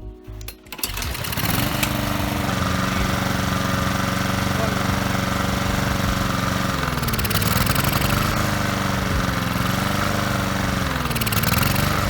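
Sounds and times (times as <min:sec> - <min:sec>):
lawnmower engine running unevenly: 0:00.3 - 0:12.0.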